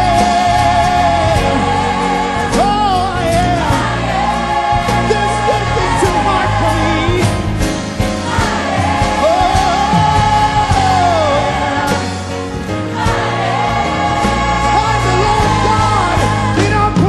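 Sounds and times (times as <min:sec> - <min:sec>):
backing singers: 0:00.0 - 0:17.0
band playing: 0:00.0 - 0:17.0.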